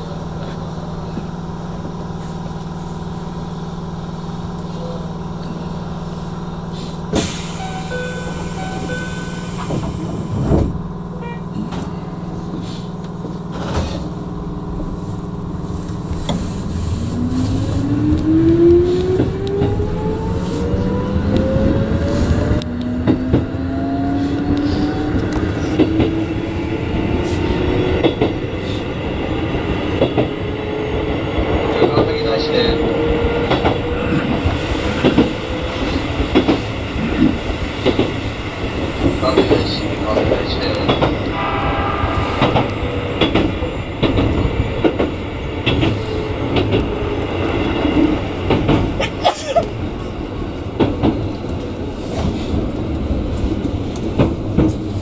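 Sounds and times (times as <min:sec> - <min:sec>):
electric train humming: 0:00.0 - 0:55.0.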